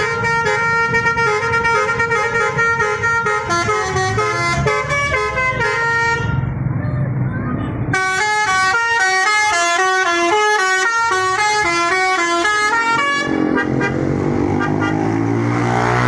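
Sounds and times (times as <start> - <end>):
musical bus horn melody: 0.0 - 6.5, 7.9 - 15.3
bus engine running: 0.0 - 16.0.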